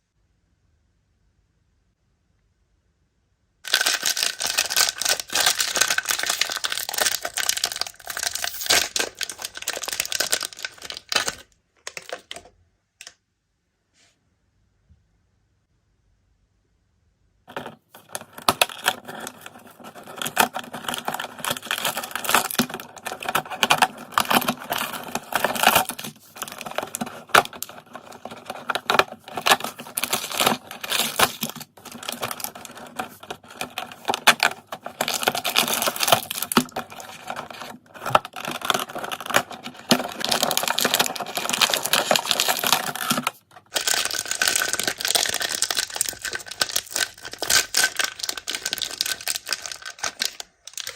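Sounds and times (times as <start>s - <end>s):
plastic packaging crinkling: 3.6s - 12.5s, 17.5s - 50.9s.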